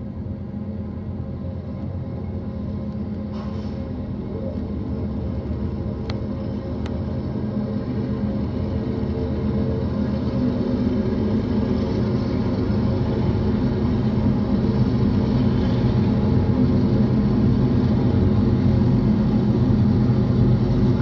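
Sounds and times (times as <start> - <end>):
diesel locomotives droning: 0.0 - 21.0.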